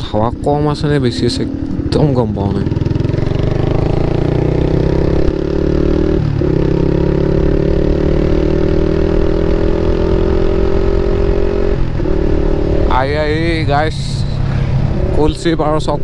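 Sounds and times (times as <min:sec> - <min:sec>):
motorcycle accelerating: 0:00.0 - 0:16.0.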